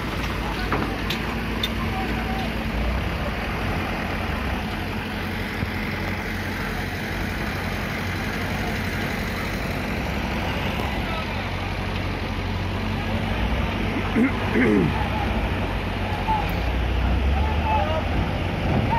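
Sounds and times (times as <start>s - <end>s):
truck diesel engines: 0.0s - 18.9s.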